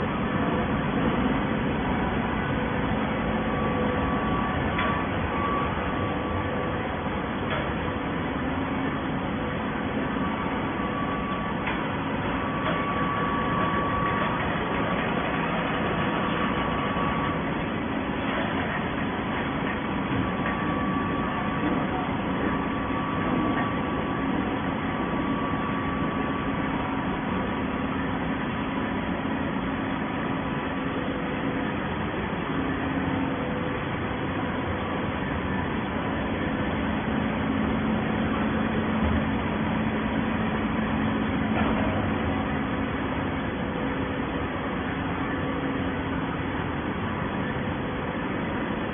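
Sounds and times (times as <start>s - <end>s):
baler machine humming: 0.0s - 48.9s.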